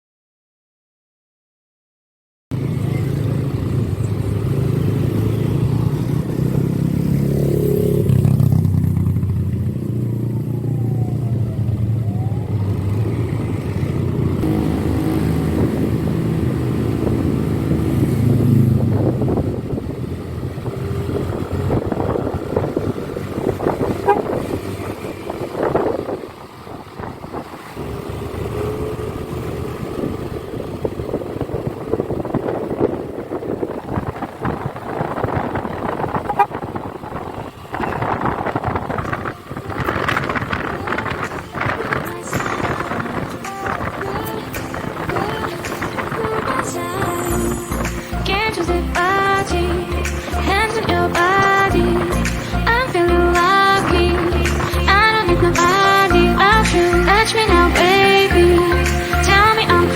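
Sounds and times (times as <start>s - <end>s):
motorcycle engine running: 2.5s - 59.9s.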